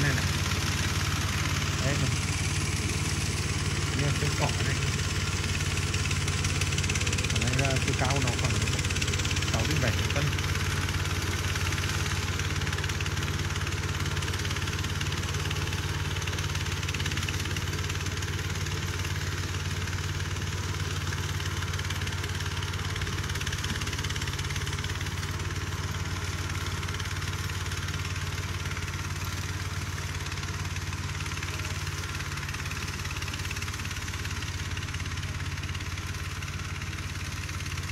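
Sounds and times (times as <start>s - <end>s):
mower engine running: 0.0s - 37.9s.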